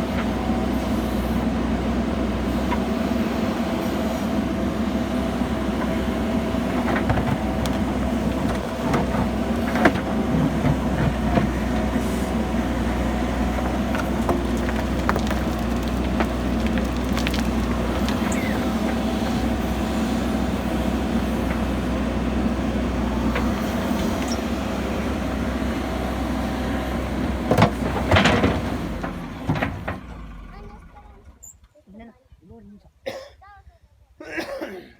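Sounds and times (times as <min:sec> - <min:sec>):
diesel engine running under load: 0:00.0 - 0:31.4.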